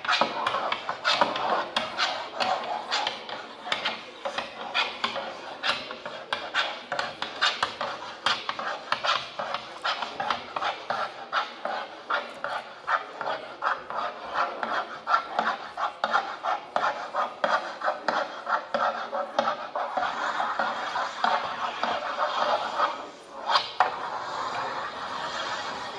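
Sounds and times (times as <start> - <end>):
amplified scratching of drawing tools: 0.0 - 25.9.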